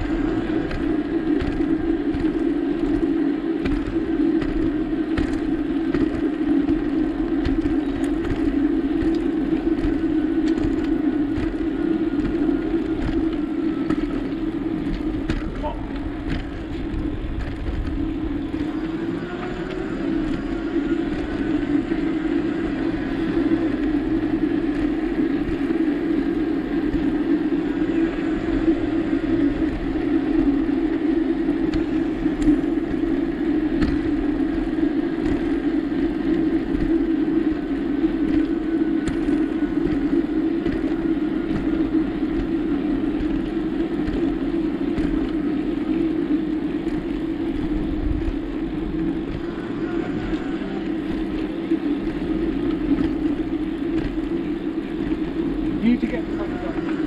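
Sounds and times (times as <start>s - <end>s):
bicycle tyres humming on path: 0.0s - 57.0s.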